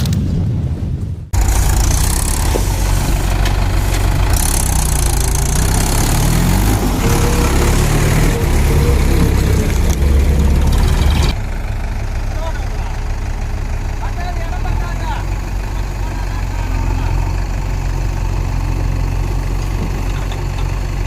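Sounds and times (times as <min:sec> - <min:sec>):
tractor diesel engine under load: 0:01.3 - 0:21.0.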